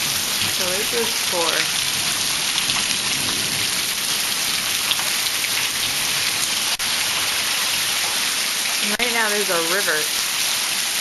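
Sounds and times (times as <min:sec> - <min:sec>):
heavy rain falling: 0:00.0 - 0:11.0
water pouring off roof: 0:00.0 - 0:11.0.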